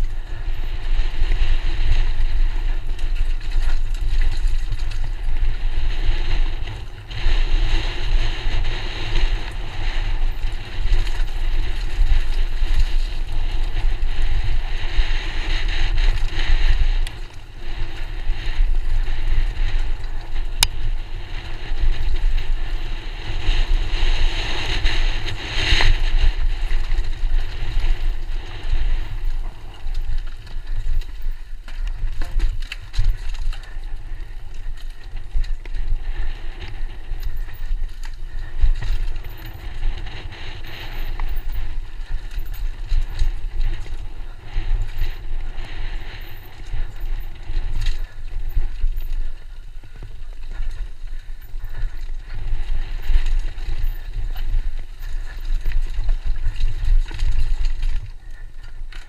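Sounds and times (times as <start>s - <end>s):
bike tyres rolling on gravel: 0.0s - 59.0s
wind buffeting microphone: 0.0s - 59.0s.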